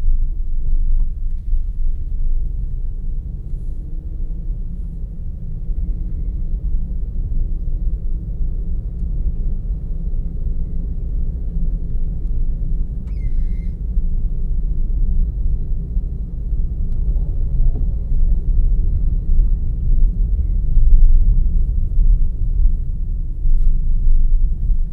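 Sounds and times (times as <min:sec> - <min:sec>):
car engine and tyre noise: 0:00.0 - 0:24.9.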